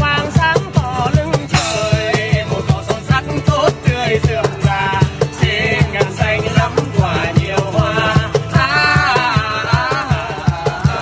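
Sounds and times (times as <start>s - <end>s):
acoustic guitar strumming: 0.0s - 11.0s
cajon beat: 0.0s - 11.0s
man singing: 0.0s - 11.0s.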